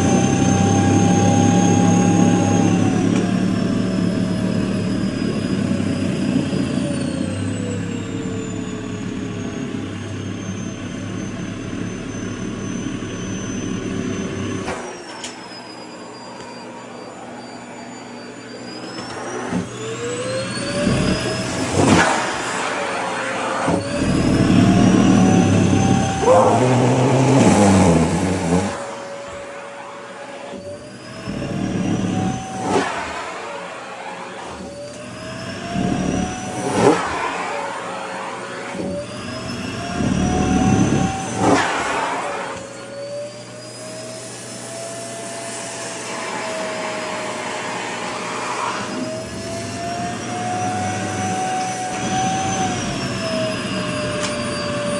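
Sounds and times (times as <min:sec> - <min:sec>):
vacuum cleaner motor whine: 0:00.0 - 0:54.9.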